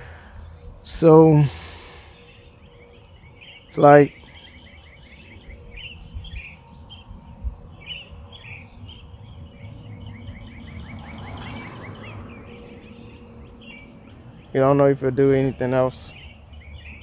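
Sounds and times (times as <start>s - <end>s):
bird trill: 0.0s - 17.0s
small songbirds chirping: 0.0s - 17.0s.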